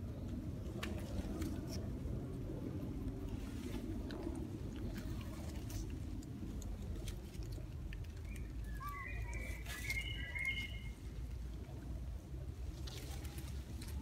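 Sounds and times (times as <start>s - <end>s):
leaves and branches rustling: 0.0s - 14.0s
steady low rumble: 0.0s - 14.0s.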